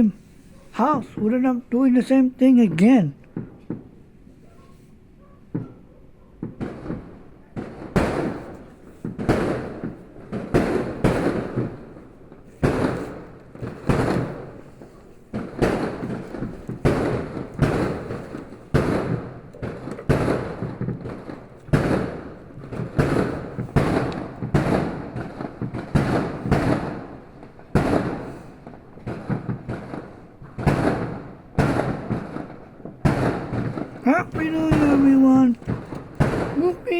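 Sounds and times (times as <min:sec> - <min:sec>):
fireworks bangs with echoing rumble: 0:03.3 - 0:04.7, 0:05.5 - 0:36.9.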